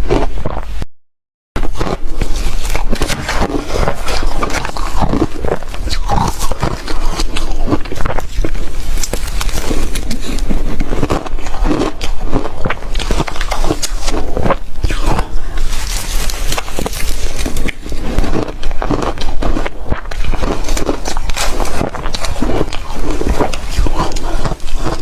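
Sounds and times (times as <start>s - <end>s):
chewing and crunching ice: 0.0s - 0.7s, 1.6s - 25.0s.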